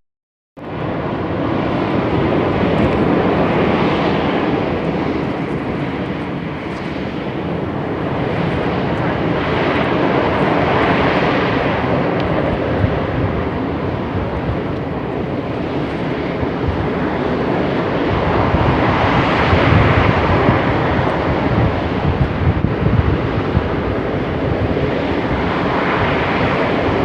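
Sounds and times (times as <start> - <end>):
volcano venting with deep rumble: 0.6 - 27.0.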